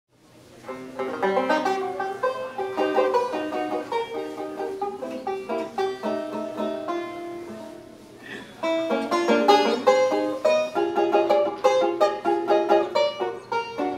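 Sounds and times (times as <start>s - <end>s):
banjo played with a pick: 0.4s - 13.9s.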